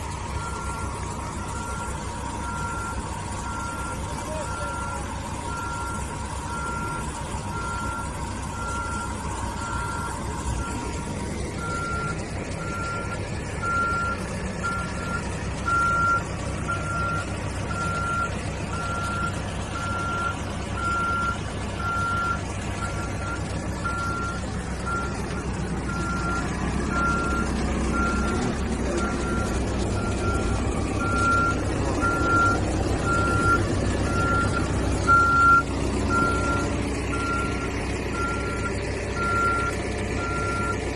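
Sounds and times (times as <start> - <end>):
diesel engine running: 0.0 - 40.9
back-up alarm beeping: 0.4 - 40.8.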